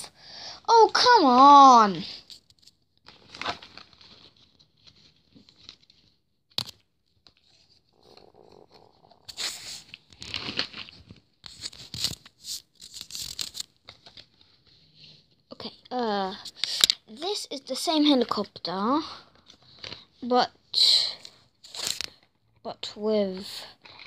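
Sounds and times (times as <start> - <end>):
toys being handled: 0.7 - 14.8, 15.8 - 18.5, 21.2 - 24.0.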